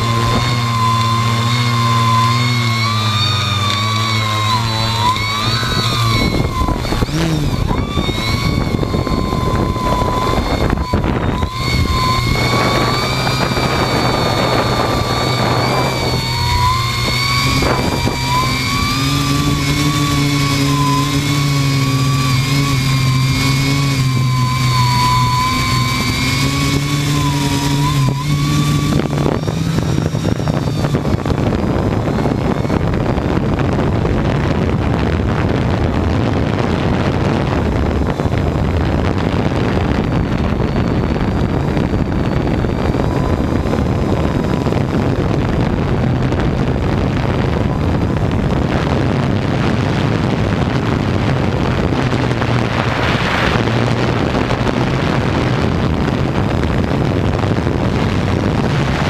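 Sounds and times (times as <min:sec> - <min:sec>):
drone motors whining: 0:00.0 - 0:59.0
wind on microphone: 0:00.0 - 0:59.0.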